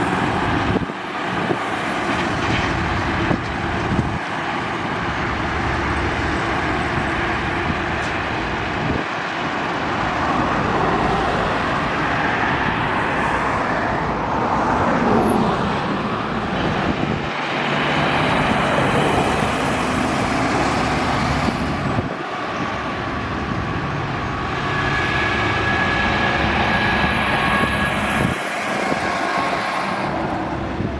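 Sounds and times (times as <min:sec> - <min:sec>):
trucks passing closely: 0:00.0 - 0:30.9.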